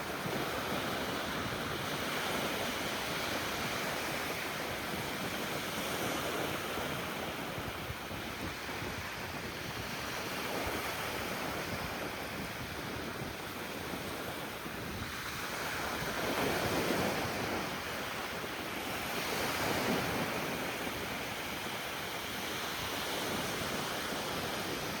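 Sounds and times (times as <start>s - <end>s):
ocean waves breaking on beach: 0.0s - 25.0s.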